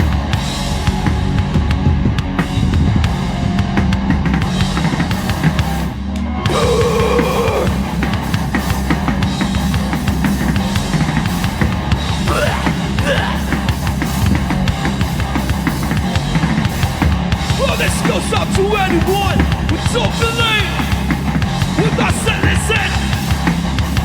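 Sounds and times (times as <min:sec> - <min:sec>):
distorted guitar and bass: 0:00.0 - 0:24.0
fast drum kit with cymbals: 0:00.0 - 0:24.0.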